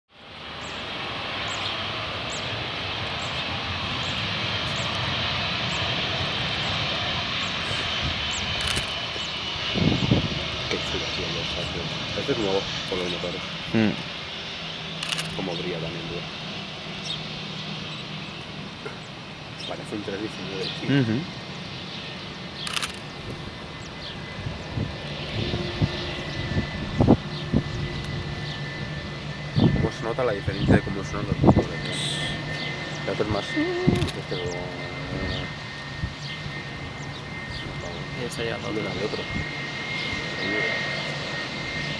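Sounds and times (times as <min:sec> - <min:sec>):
jet engines running: 0:00.1 - 0:41.9
thin steady whine: 0:00.2 - 0:41.9.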